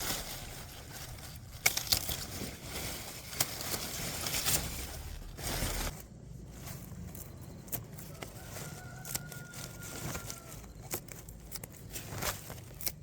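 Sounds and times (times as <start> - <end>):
rustling handling noise: 0.0 - 13.0.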